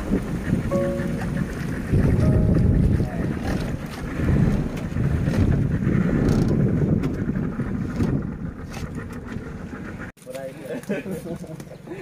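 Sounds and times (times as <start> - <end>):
motorboat engine rumble: 0.0 - 10.1
wind buffeting microphone: 0.0 - 10.1.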